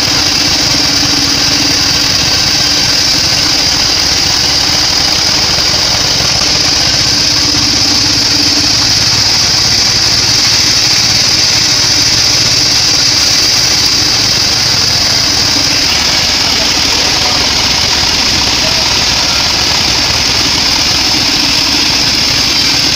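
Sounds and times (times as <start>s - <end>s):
bandsaw high-pitched hiss: 0.0s - 22.9s
low machine drone: 0.0s - 22.9s.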